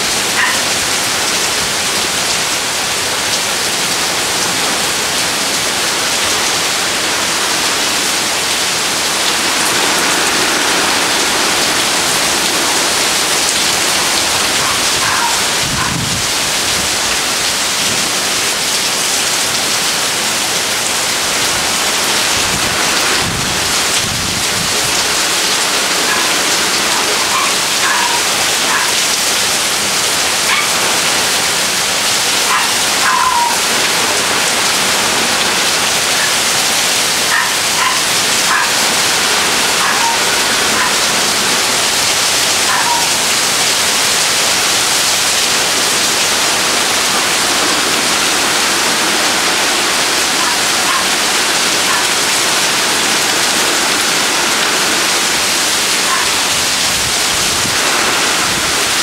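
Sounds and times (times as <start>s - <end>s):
heavy rain on pavement and roofs: 0.0s - 59.0s.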